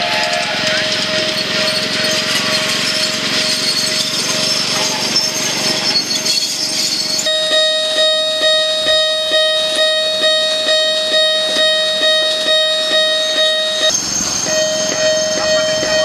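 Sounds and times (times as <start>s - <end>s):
miniature train passing: 0.0s - 16.0s
railway crossing bell ringing: 0.0s - 16.0s.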